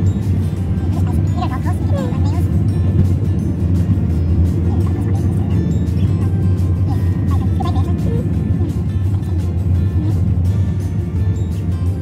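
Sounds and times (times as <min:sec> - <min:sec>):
background music: 0:00.0 - 0:12.0
steady low drone: 0:00.0 - 0:12.0.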